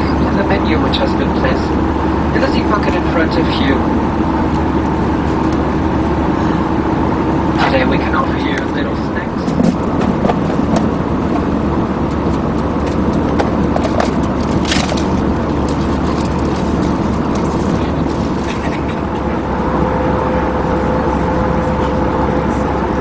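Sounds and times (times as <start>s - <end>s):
airplane cabin noise: 0.0s - 23.0s.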